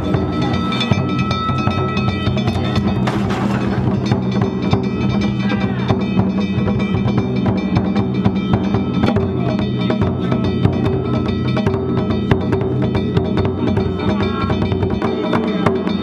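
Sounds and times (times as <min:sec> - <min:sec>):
hand gongs ringing: 0:00.0 - 0:16.0
taiko drum: 0:00.0 - 0:16.0.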